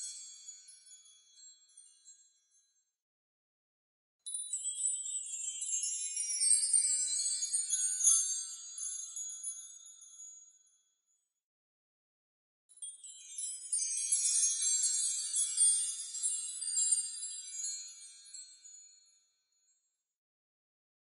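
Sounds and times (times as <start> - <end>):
tinkling chime shimmer: 0.0 - 2.9, 4.2 - 11.2, 12.7 - 20.0.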